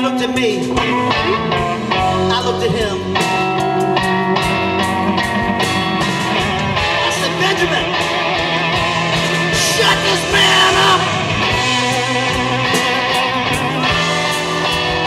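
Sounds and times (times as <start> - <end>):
blues band playing live: 0.0 - 15.0
electric guitar lead notes: 0.0 - 15.0.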